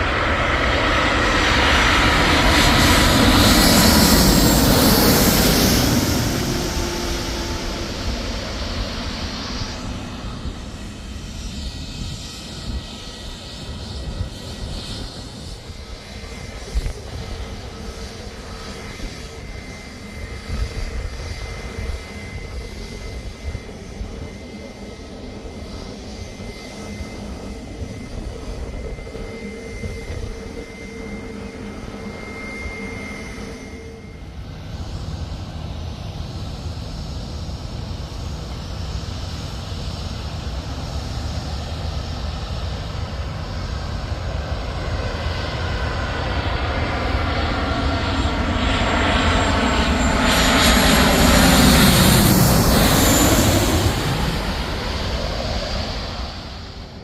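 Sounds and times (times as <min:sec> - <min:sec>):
jet airliner landing: 0:00.0 - 0:57.0
steady high whine: 0:00.0 - 0:57.0.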